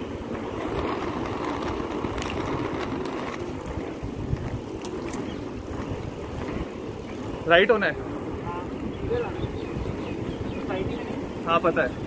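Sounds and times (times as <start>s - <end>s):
inline skate wheels rolling on asphalt: 0.0s - 12.0s
wind buffeting microphone: 0.0s - 12.0s.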